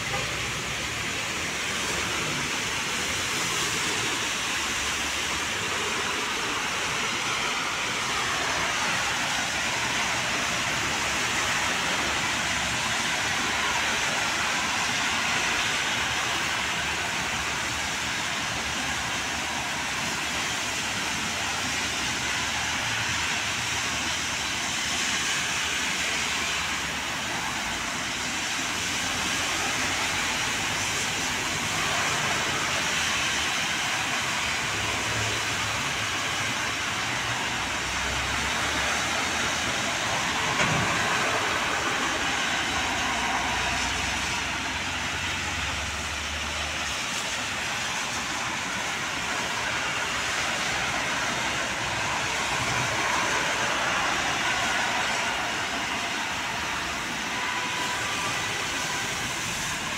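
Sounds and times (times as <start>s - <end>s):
heavy rain: 0.0s - 59.9s
vehicles driving through water: 0.0s - 59.9s.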